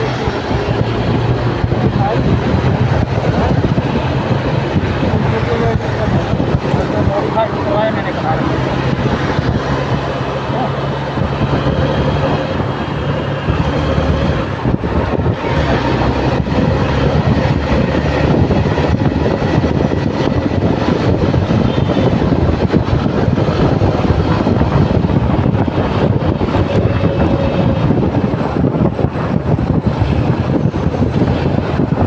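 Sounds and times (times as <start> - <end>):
motorbike engine: 0.0 - 32.0
road noise: 0.0 - 32.0
wind on microphone: 0.0 - 32.0.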